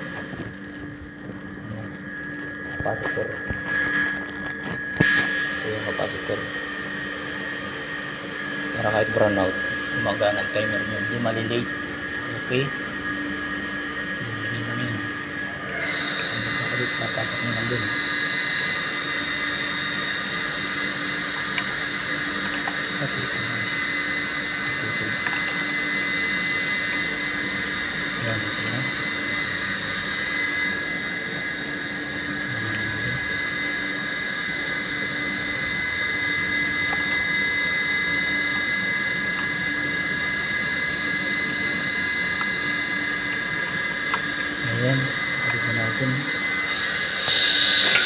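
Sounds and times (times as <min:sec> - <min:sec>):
machine drone with high whine: 0:00.0 - 0:48.0.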